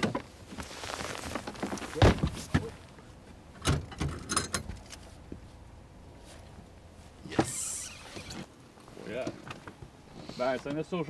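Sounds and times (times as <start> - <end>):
rustling hiss: 0.4 - 3.7, 4.8 - 11.0.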